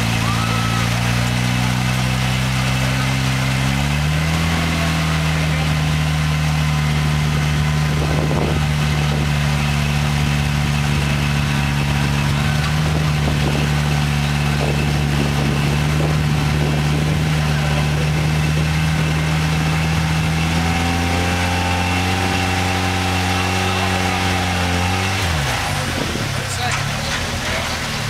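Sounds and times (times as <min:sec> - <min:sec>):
truck engine at low throttle: 0:00.0 - 0:28.0.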